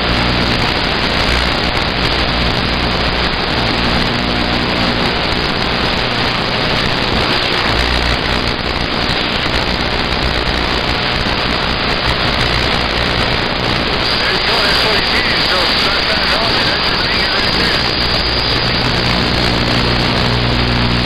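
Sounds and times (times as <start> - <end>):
low hum: 0.0 - 21.0
radio static hiss: 0.0 - 21.0.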